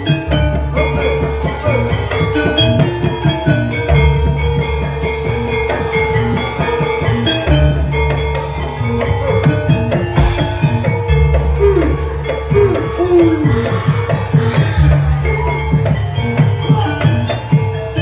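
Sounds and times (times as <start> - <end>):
hand drum beats: 0.0 - 18.0.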